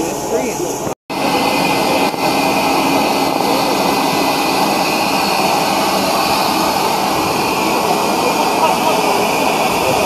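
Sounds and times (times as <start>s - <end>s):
steam locomotive venting steam: 0.0s - 10.0s.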